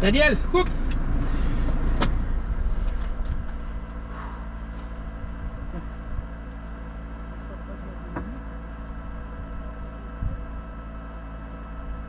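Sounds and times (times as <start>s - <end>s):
off-road engines idling: 0.0s - 12.0s.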